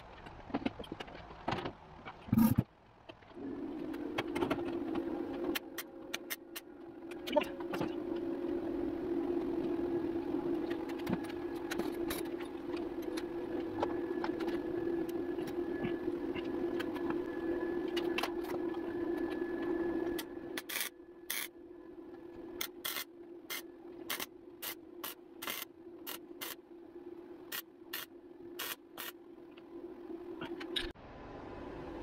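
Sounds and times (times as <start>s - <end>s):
mechanical hum with ticks: 0.0s - 32.0s.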